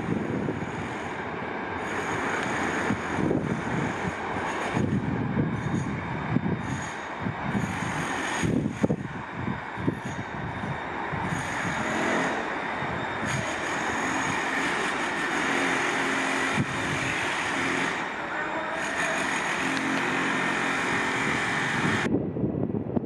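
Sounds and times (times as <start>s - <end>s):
freight train rumbling: 0.0s - 23.0s
faint high wheel squeal: 1.8s - 22.1s.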